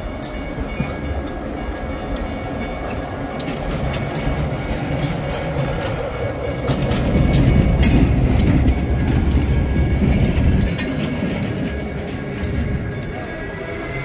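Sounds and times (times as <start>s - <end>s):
diesel locomotive engine: 0.0s - 14.0s
wheels clicking over rail joints: 0.0s - 14.0s.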